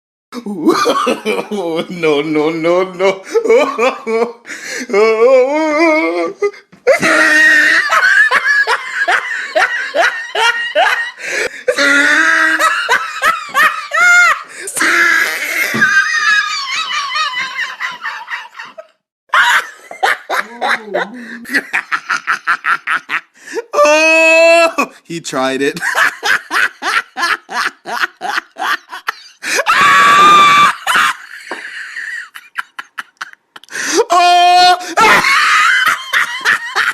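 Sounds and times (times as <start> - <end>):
person laughing hard: 0.4 - 2.1, 3.0 - 24.9, 25.8 - 36.9.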